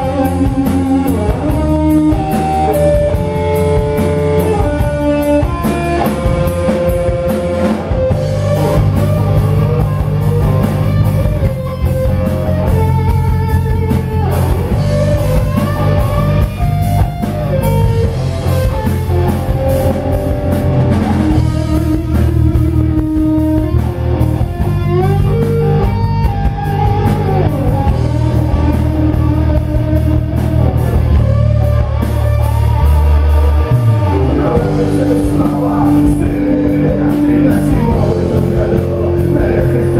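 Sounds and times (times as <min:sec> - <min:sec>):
drum kit: 0:00.0 - 0:39.9
electric guitar with bent notes: 0:00.0 - 0:39.9.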